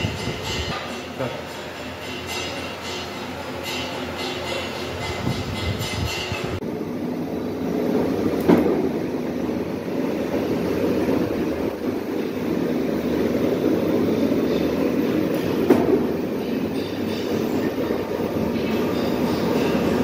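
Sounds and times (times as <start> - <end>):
workshop machinery rumbling: 0.0 - 20.0.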